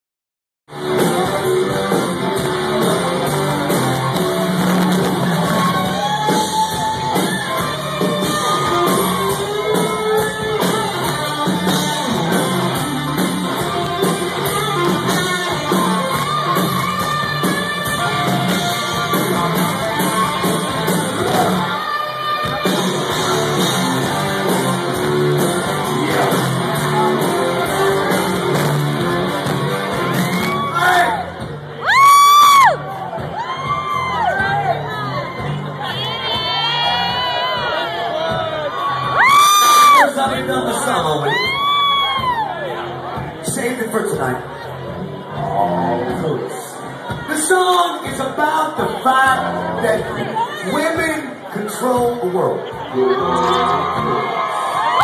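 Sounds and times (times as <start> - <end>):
guitar: 0.7 - 55.0
live rock band playing: 0.7 - 55.0.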